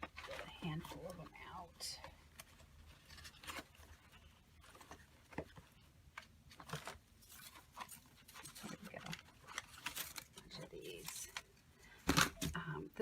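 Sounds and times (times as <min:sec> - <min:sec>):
faint paper rustling: 0:00.0 - 0:12.6.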